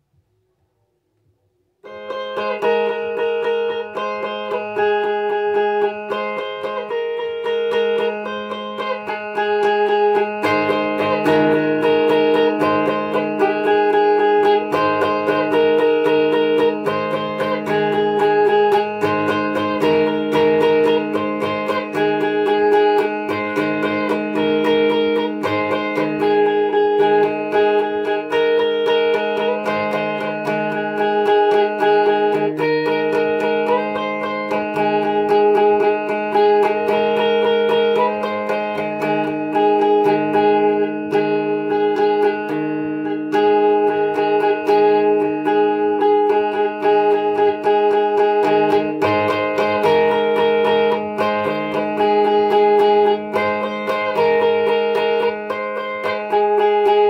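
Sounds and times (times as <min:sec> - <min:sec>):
electric guitar music: 0:01.8 - 0:57.0.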